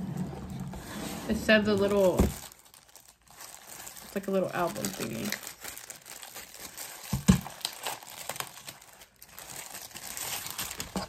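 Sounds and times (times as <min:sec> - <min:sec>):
plastic wrapping crinkling: 0:01.3 - 0:11.0.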